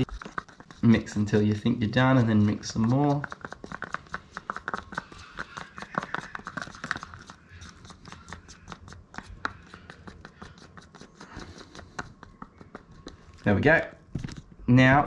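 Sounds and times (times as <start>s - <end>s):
stir stick scraping plastic cup: 0.0s - 14.5s.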